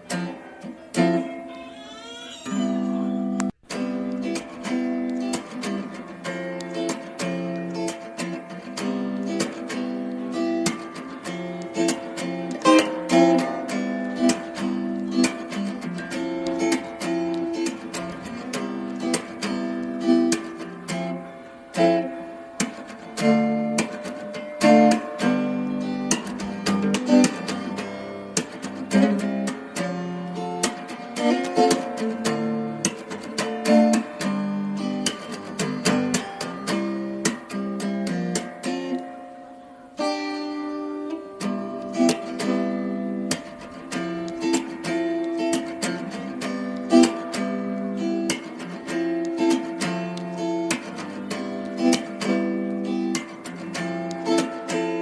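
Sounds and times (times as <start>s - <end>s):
acoustic guitar strumming and plucking: 0.0s - 55.0s.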